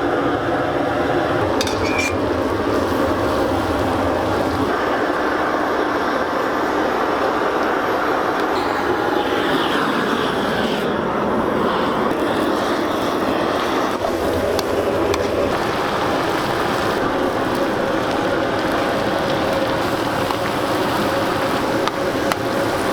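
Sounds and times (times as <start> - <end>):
pot boiling hard: 0.0 - 22.9.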